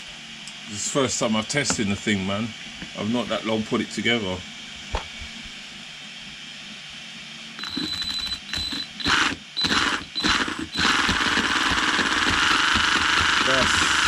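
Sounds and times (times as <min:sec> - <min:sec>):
electric motor and belt drive whirring: 0:00.0 - 0:14.0
high motor whine: 0:00.0 - 0:14.0.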